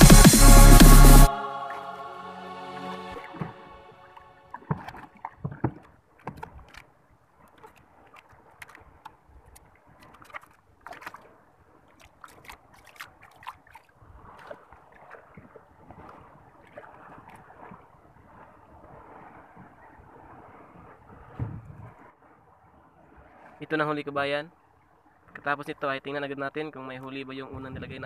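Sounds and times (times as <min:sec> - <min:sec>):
paddle splashing water: 0:00.0 - 0:25.5.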